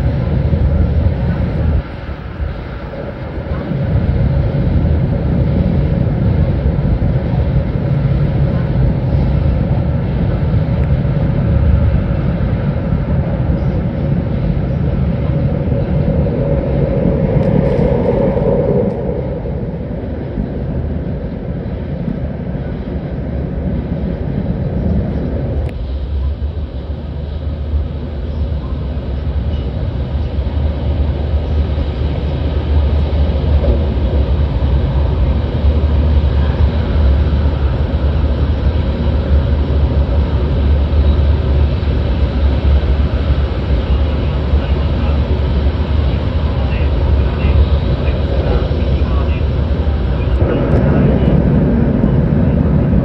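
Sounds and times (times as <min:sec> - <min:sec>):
train rumbling through tunnel: 0:00.0 - 0:53.0.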